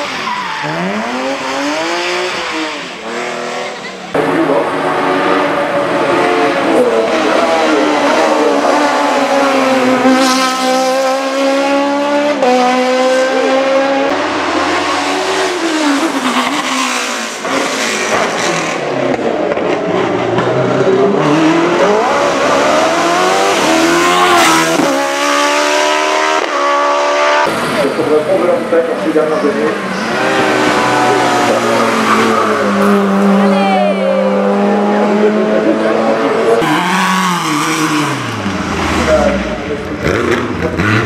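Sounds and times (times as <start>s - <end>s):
racing car engines revving: 0.0s - 41.0s.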